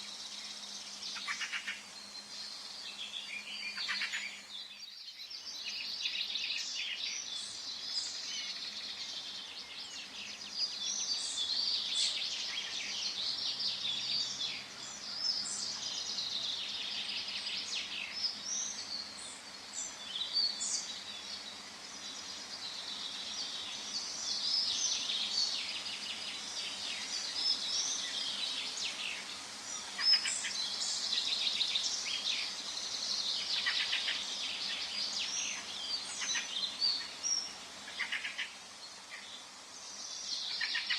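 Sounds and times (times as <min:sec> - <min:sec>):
chorus of small birds singing: 0:00.0 - 0:40.9.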